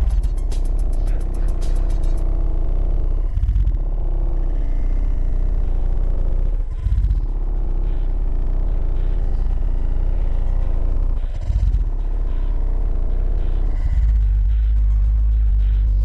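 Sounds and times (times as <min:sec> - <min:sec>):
subwoofer playing heavy bass: 0:00.0 - 0:16.0.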